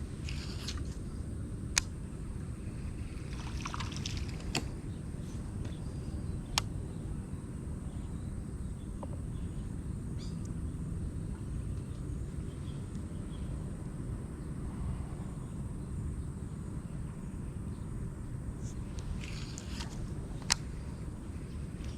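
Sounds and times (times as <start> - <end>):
steady low rumble: 0.0 - 21.9.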